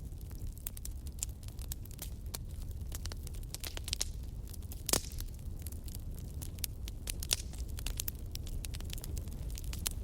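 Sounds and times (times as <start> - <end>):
fire crackling and popping: 0.0 - 10.0
low rumble of flames: 0.0 - 10.0.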